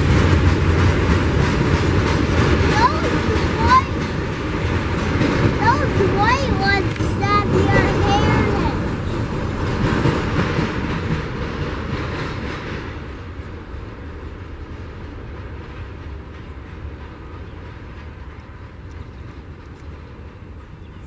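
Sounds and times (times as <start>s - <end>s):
freight train cars rolling on rails: 0.0s - 21.0s.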